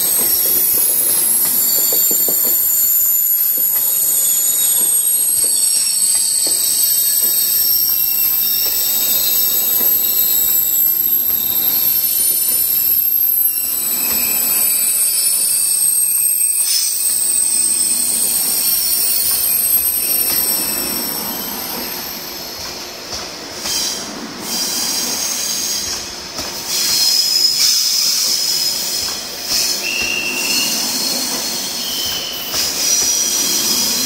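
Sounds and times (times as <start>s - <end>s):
train cars rumbling: 0.0s - 15.3s, 16.7s - 34.0s
train wheels squealing: 0.0s - 34.0s.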